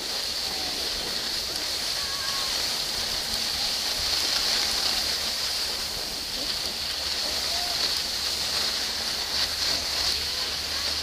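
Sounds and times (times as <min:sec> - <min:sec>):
faint voices: 0:00.0 - 0:11.0
skis sliding over packed snow: 0:00.0 - 0:11.0.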